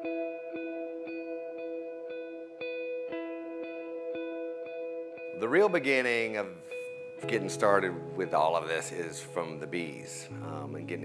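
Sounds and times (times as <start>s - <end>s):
plucked string notes: 0.0s - 11.0s.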